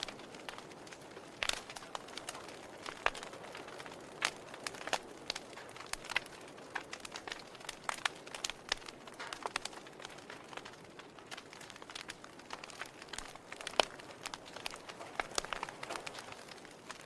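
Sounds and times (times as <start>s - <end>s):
firewood snapping and popping: 0.0s - 17.0s.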